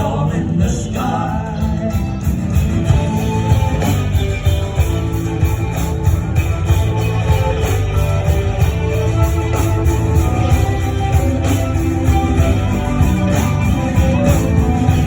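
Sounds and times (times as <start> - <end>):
bass guitar: 0.0 - 15.0
steady drum beat: 0.0 - 15.0
strummed guitars: 0.0 - 15.0.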